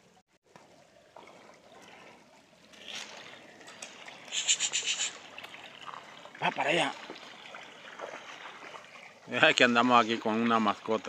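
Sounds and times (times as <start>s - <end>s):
stream trickling over rocks: 0.4s - 11.0s.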